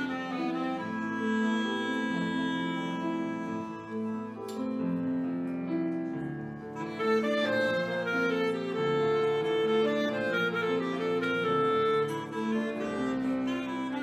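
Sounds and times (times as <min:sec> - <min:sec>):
clarinet melody: 0:00.0 - 0:14.0
small jazz band playing: 0:00.0 - 0:14.0.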